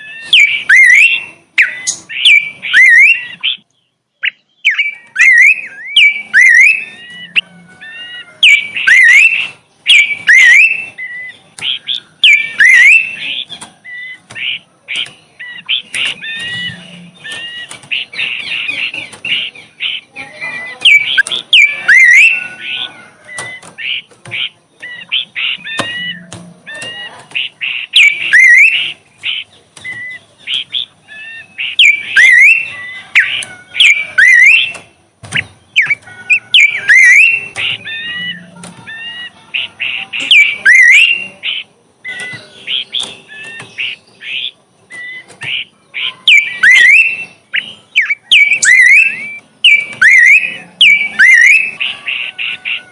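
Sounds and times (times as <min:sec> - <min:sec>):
songbird chirping and whistling: 0:00.0 - 0:52.9.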